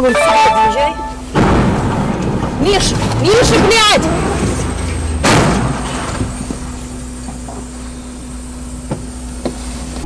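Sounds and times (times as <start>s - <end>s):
car interior low hum: 0.0s - 10.0s.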